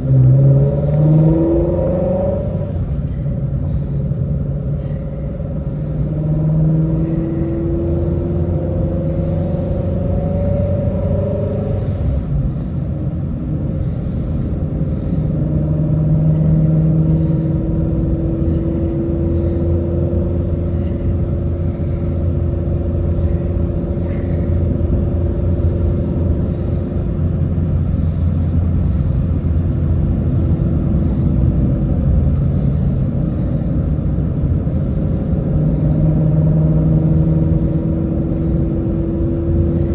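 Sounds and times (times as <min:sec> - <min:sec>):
car engine cruising: 0:00.0 - 0:39.9
road noise: 0:00.0 - 0:39.9.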